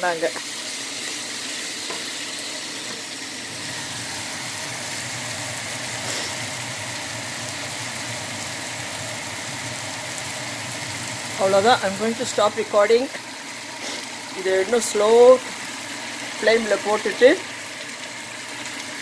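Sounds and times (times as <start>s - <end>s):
stir-fry sizzling in a pan: 0.0s - 19.0s.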